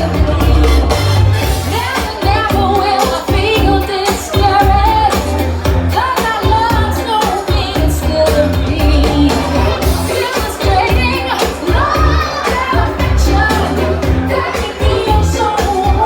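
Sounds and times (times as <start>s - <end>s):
band music with singer: 0.0s - 16.0s.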